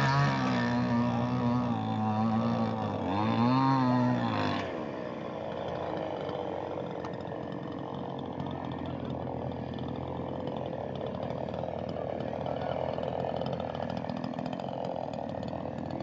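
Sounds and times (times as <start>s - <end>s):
chainsaw running: 0.0s - 16.0s.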